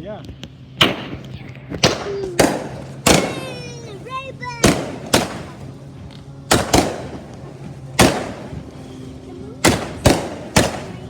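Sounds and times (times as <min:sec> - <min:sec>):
fireworks bangs: 0:00.8 - 0:11.0.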